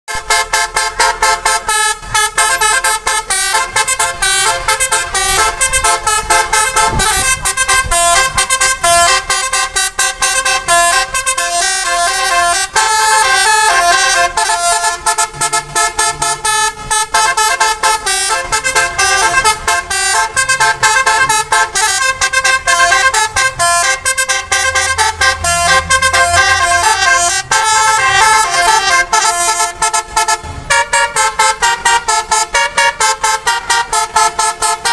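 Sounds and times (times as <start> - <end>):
musical bus horn melody: 0.1 - 34.9.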